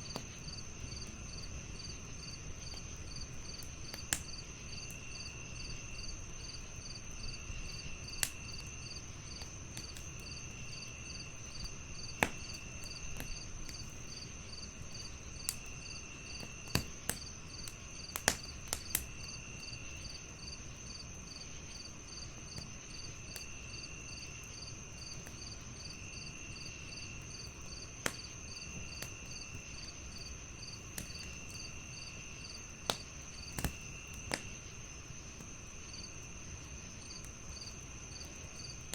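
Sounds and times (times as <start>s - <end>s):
crickets trilling: 0.0s - 38.9s
fast pulsing cricket chirp: 0.0s - 38.9s
wood fire crackling: 0.0s - 38.9s.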